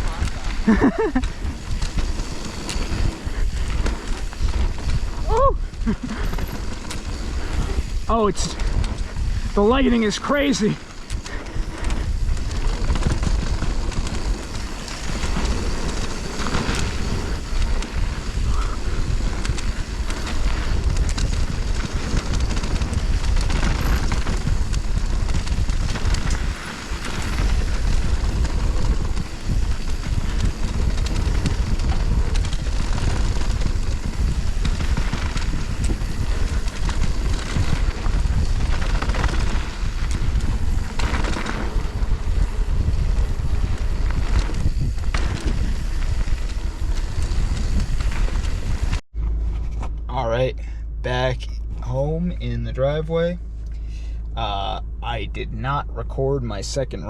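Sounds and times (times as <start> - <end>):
bike knocks and rattles: 0.0 - 50.0
bike tyres on dirt: 0.0 - 50.1
wind rushing over microphone: 0.0 - 50.1.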